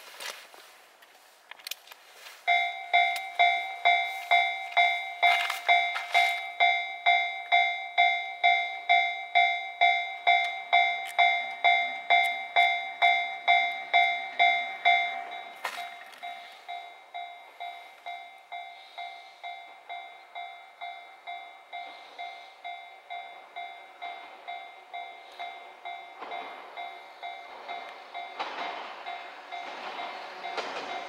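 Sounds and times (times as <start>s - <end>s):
level crossing warning bell: 2.4s - 31.0s.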